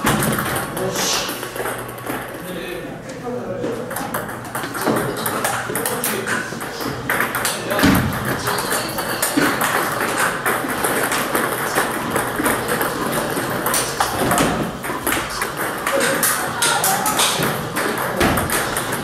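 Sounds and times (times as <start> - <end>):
ball strikes from neighbouring tables: 0.0 - 2.4, 3.7 - 19.0
table tennis balls clicking: 0.0 - 2.6, 3.6 - 19.0.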